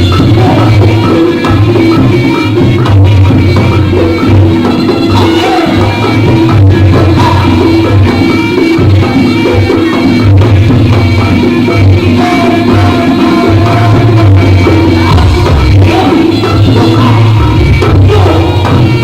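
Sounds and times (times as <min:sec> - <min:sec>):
heavy continuous drumming: 0:00.0 - 0:19.0
pitched melody lines: 0:00.0 - 0:19.0.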